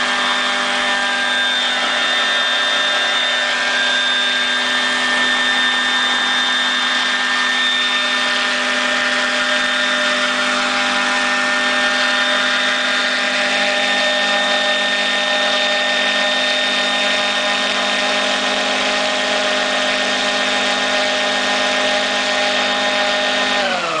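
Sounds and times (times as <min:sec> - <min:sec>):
electric motor whine: 0:00.0 - 0:24.0
model helicopter rotor noise: 0:00.0 - 0:24.0.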